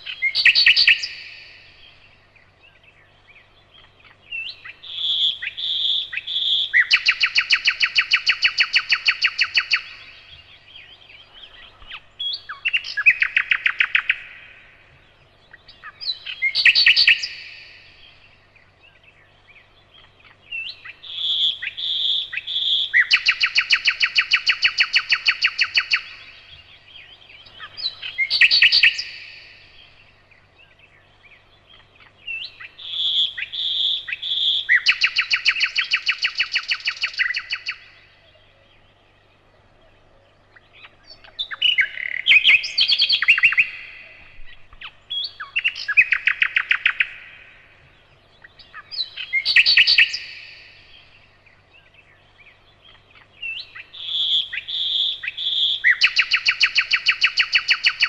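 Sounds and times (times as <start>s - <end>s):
faint low hum: 0.0s - 56.9s
nightingale singing: 0.0s - 58.0s.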